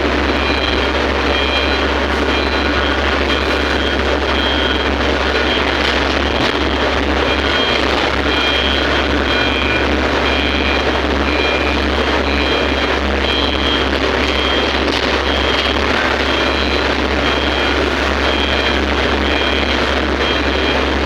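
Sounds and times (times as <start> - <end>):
diesel engine drone: 0.0 - 21.0
short high-pitched tones: 0.2 - 21.0.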